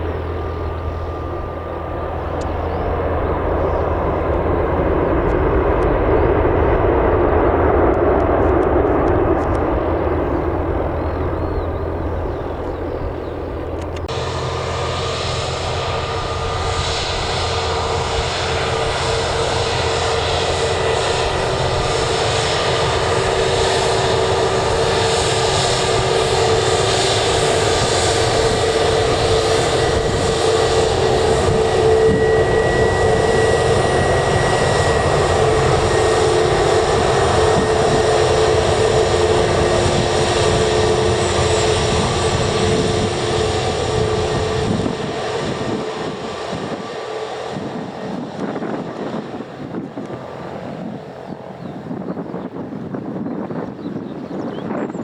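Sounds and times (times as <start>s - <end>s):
airliner engines whining: 0.0s - 55.0s.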